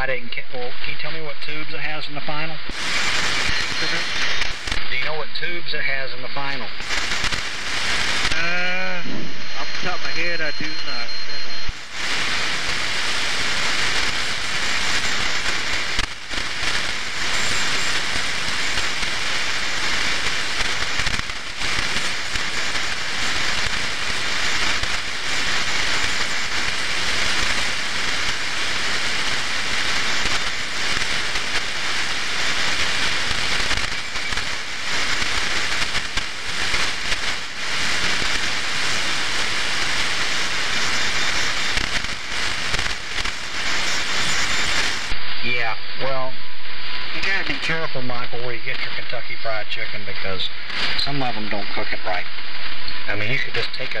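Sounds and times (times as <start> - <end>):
radio static hiss with crackles: 0.0 - 54.0.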